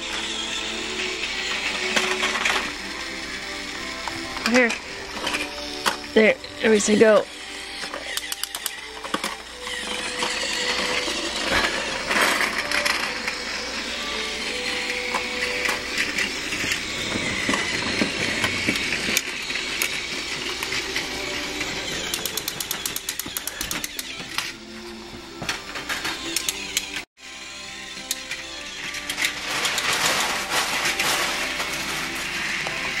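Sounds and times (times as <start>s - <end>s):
toy train motor whir: 0.0s - 33.0s.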